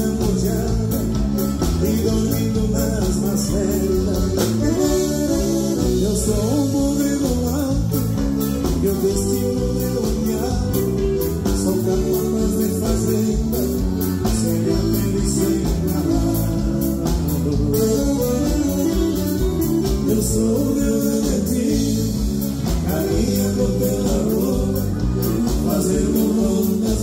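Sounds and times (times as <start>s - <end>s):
band music with guitar: 0.0s - 27.0s
steady bass beat: 0.0s - 27.0s.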